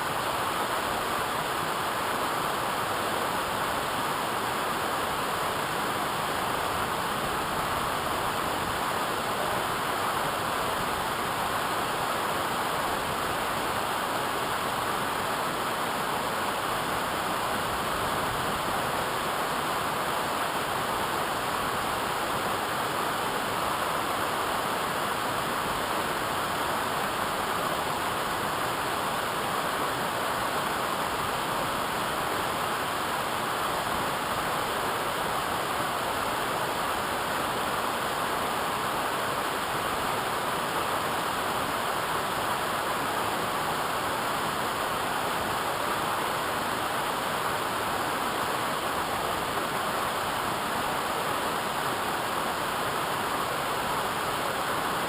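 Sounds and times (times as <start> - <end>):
waterfall rushing water: 0.0 - 55.0.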